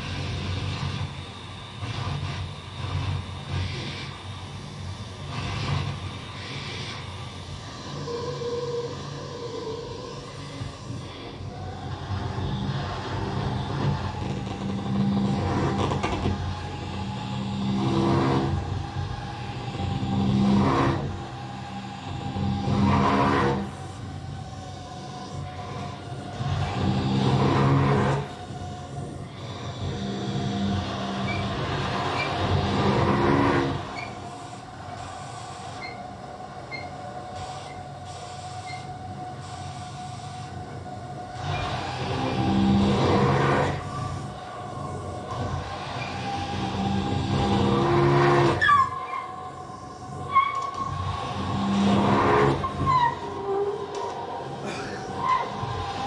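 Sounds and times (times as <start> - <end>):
hurdy-gurdy buzzing drone: 0.0 - 56.0.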